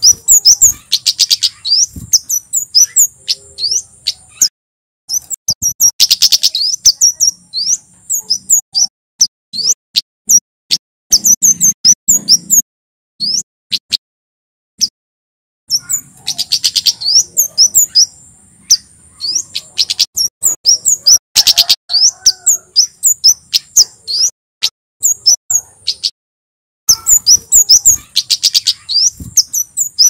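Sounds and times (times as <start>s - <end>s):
bird chirping: 0.0s - 4.5s, 5.1s - 10.4s, 11.1s - 12.6s, 13.2s - 14.0s, 15.7s - 24.4s, 25.0s - 26.2s, 26.9s - 30.0s.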